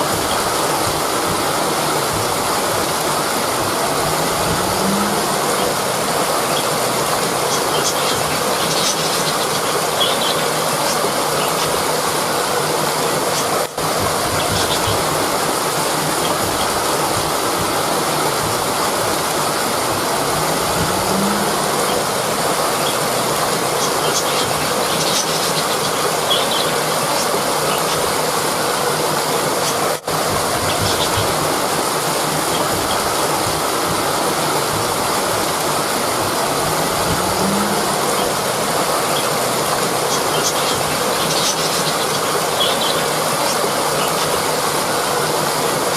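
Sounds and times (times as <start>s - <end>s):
rushing river water: 0.0s - 45.9s.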